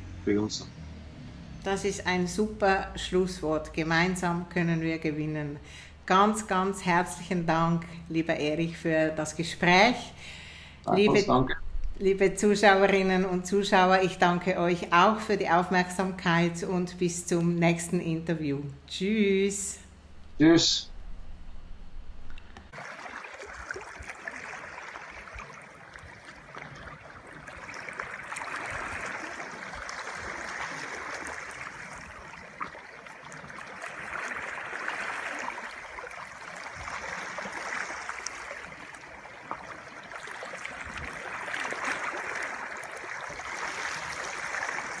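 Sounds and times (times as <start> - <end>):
water rippling and splashing: 0.0 - 18.1, 22.2 - 45.0.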